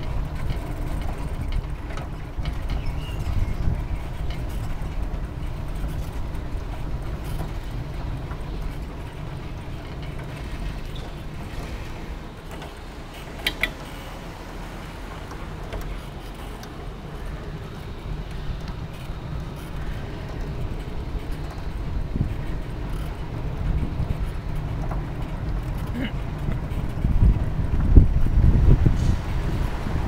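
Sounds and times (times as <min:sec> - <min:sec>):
wind on microphone: 0:00.0 - 0:12.3, 0:16.8 - 0:30.0
bicycle rumbling and rattling: 0:00.0 - 0:30.0.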